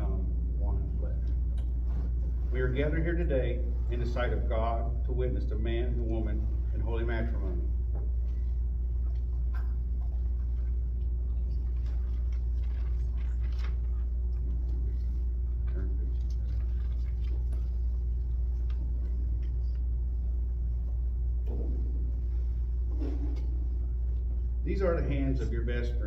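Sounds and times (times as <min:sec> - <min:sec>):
faint steady hum: 0:00.0 - 0:26.0
steady low rumble: 0:00.0 - 0:26.0.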